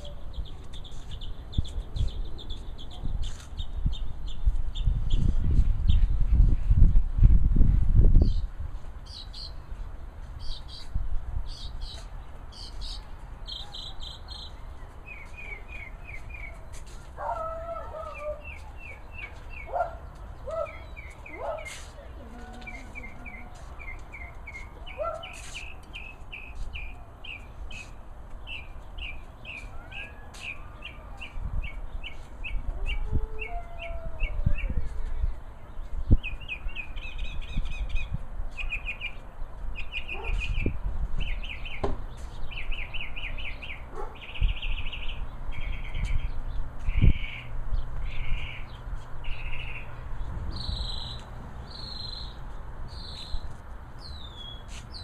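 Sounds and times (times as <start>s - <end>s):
songbird singing: 0.0s - 6.5s, 8.1s - 55.0s.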